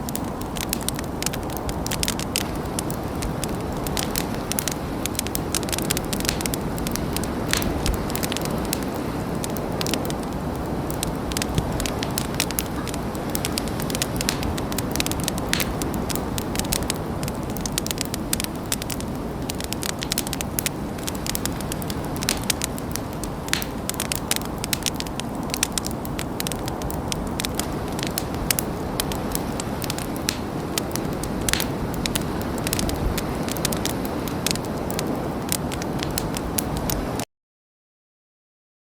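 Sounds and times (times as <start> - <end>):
burning wood crackling and popping: 0.0 - 37.2
campfire roaring: 0.0 - 37.2.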